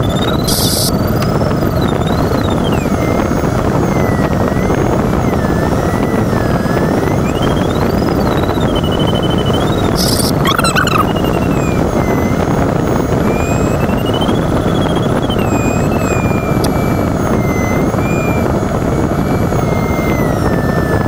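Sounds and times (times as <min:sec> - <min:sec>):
airflow rushing in cockpit: 0:00.0 - 0:21.0
electronic variometer tone: 0:00.0 - 0:21.0.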